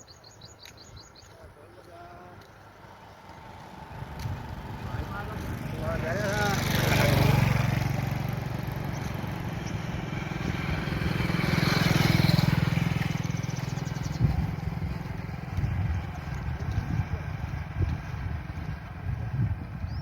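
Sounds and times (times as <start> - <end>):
vehicle engine running: 3.2 - 20.0.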